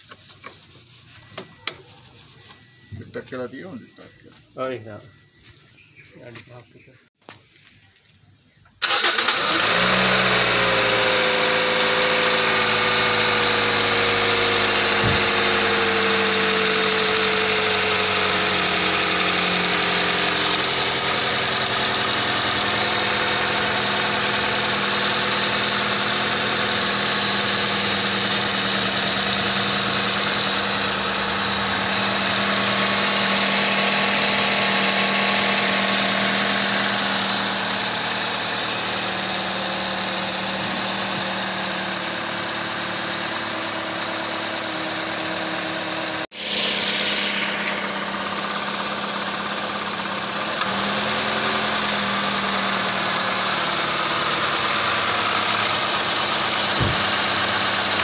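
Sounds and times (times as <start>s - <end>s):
car engine idling: 8.8s - 58.0s.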